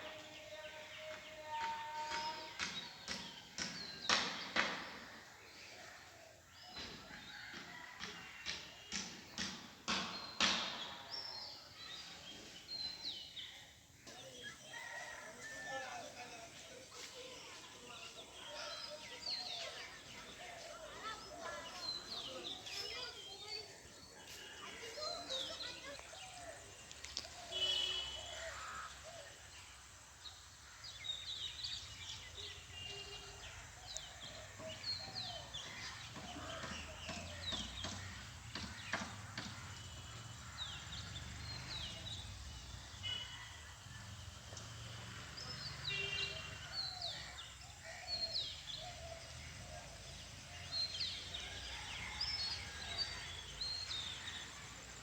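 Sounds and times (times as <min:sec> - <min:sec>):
small birds chirping: 0:00.8 - 0:07.8, 0:08.4 - 0:55.0.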